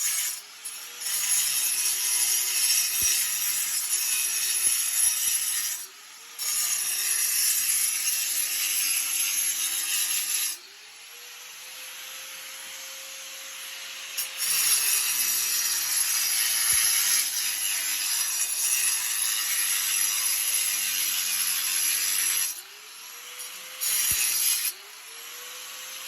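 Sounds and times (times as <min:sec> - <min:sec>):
hissing sawing tool: 0:00.0 - 0:26.0.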